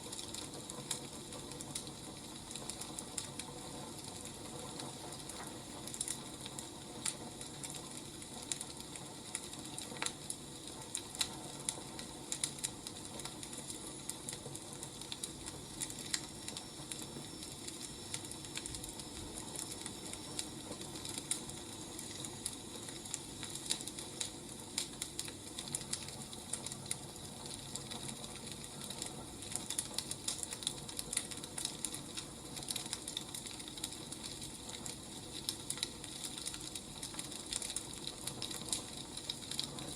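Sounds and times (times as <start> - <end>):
firewood crackling: 0.0 - 39.9
low fire hiss: 0.0 - 39.9.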